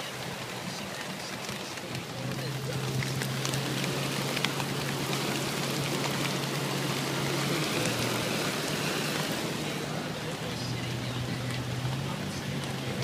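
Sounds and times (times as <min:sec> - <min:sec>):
car low hum: 0:00.0 - 0:13.0
heavy rain on a car: 0:00.0 - 0:13.0.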